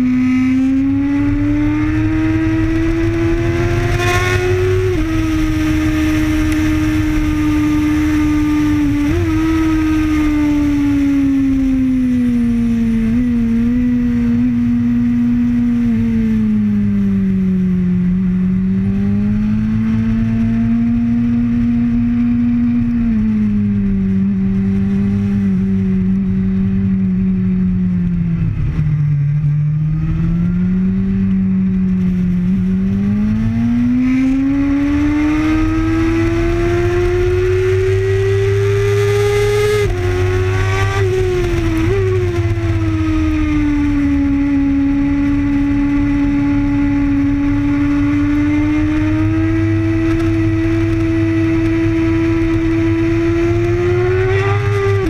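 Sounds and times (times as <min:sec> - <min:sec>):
motorcycle engine at speed: 0:00.0 - 0:55.0
wind rushing over microphone: 0:00.0 - 0:55.0.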